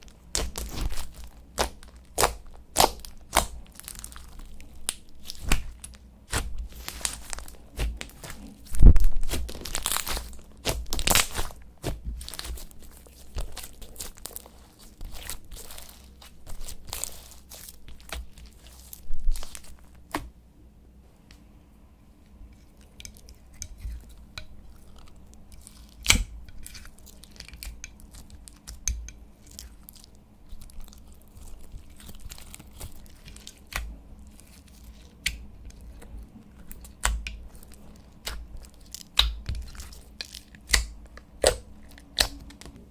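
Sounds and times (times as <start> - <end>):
slime being kneaded and torn: 0.0 - 20.3, 22.6 - 42.9.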